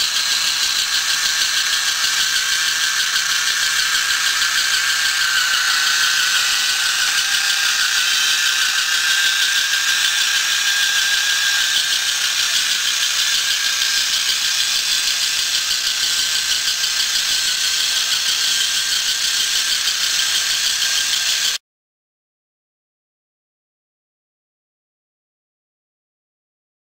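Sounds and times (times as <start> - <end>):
toy motor gear whine: 0.0 - 21.6.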